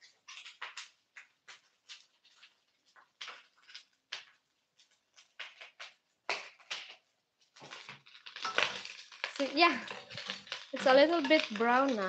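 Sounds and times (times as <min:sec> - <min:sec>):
pork frying in a pan: 0:00.0 - 0:12.0.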